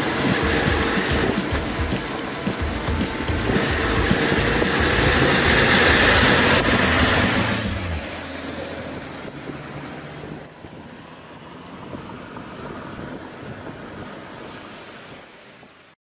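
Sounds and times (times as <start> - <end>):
diesel truck driving by: 0.0 - 14.4.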